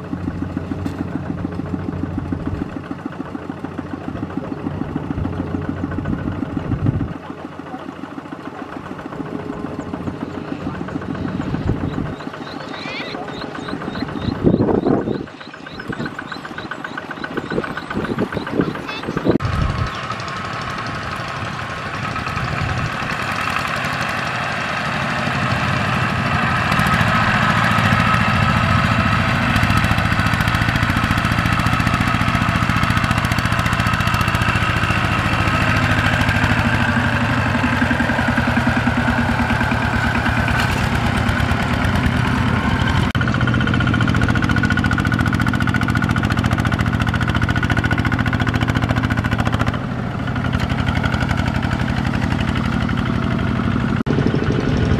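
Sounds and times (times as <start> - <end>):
diesel engine chugging: 0.0 - 54.9.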